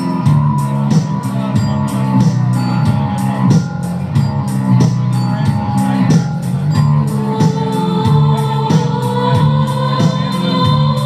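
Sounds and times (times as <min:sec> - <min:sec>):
bass guitar: 0:00.0 - 0:11.0
held keyboard notes: 0:00.0 - 0:11.0.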